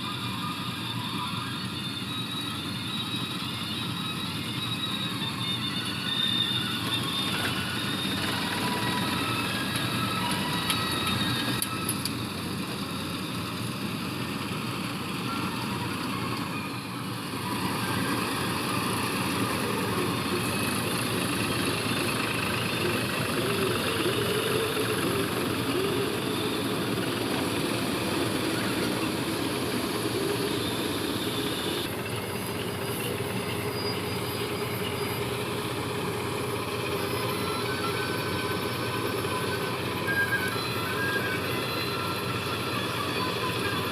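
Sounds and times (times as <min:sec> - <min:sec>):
diesel farm machinery engines running: 0:00.0 - 0:43.9.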